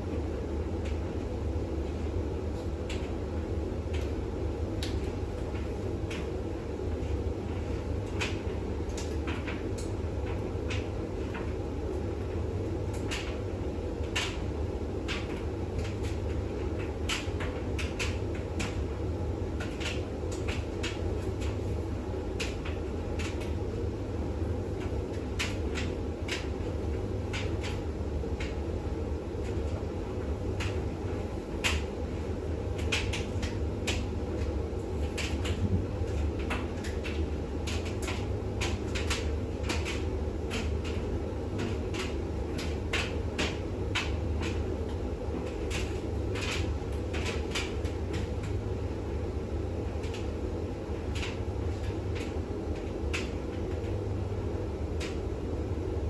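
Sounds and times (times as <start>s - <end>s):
washing machine spinning hum: 0.0s - 56.0s.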